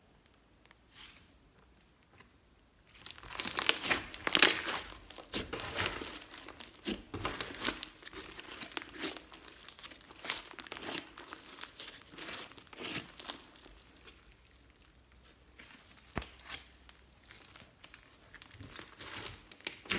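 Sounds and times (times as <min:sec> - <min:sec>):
slime crackling and popping: 0:02.9 - 0:19.9.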